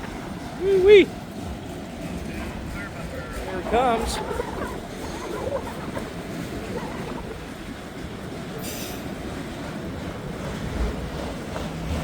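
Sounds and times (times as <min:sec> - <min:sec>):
freight train rumbling: 0:00.0 - 0:12.0
wind buffeting microphone: 0:00.0 - 0:12.0.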